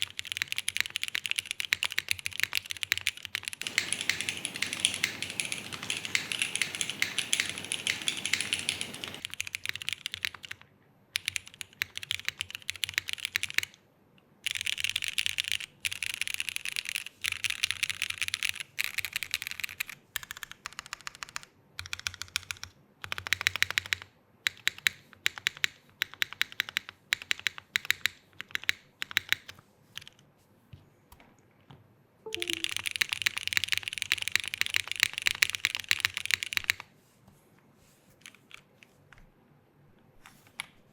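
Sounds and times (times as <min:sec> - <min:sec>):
mechanical keyboard typing: 0:00.0 - 0:10.6, 0:11.2 - 0:13.8, 0:14.5 - 0:30.2, 0:32.3 - 0:36.8.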